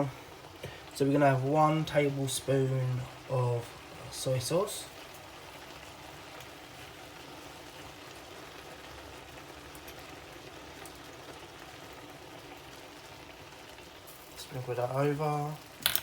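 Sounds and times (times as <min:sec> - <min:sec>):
stir fry sizzling in a pan: 0:00.0 - 0:16.0.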